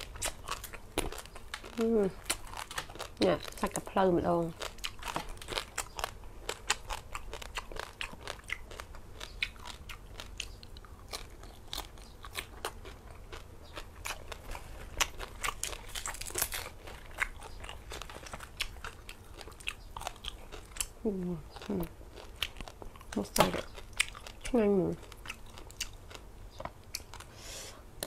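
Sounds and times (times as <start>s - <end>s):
crunching crispy pork skin: 0.0s - 26.3s.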